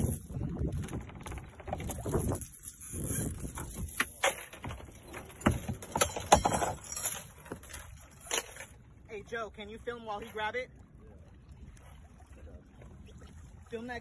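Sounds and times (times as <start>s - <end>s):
water slapping boat hull: 0.0s - 14.0s
wind: 0.0s - 14.0s.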